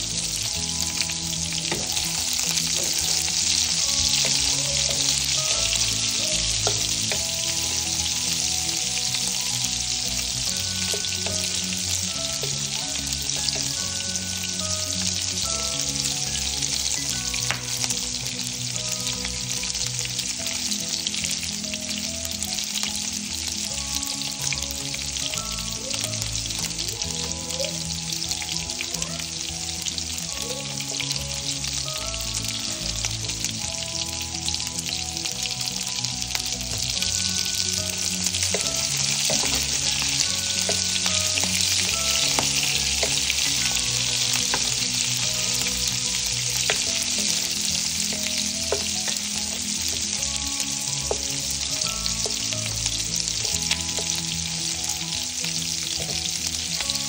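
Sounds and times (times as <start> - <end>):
sausage and onion sizzling: 0.0 - 57.0
soft background music: 0.0 - 57.0.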